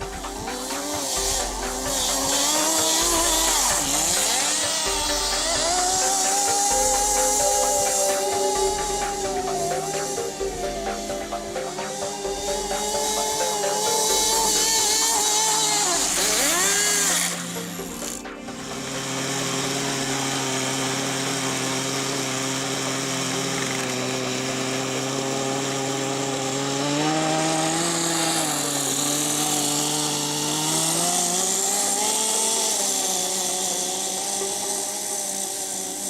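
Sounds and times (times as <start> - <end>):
small nitro engine buzzing: 0.0 - 36.0.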